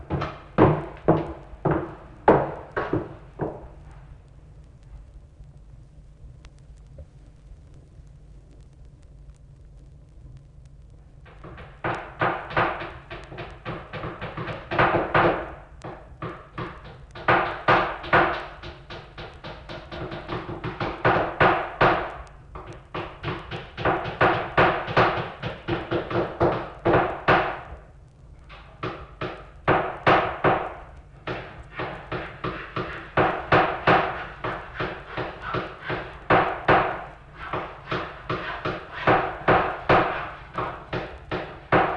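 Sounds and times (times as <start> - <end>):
low steady hum: 0.0 - 41.9.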